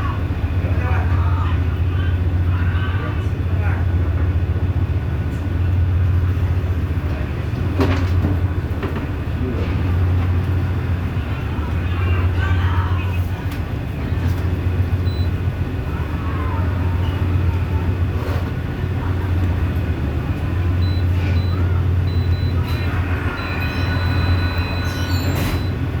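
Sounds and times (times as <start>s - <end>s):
boat diesel engine droning: 0.0s - 26.0s.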